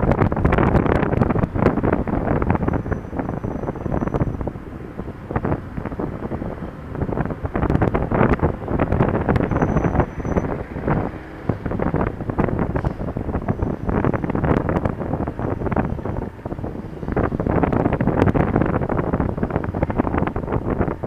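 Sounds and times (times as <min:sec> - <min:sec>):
road noise: 0:00.0 - 0:21.0
scooter engine: 0:00.0 - 0:21.0
wind buffeting microphone: 0:00.0 - 0:21.0.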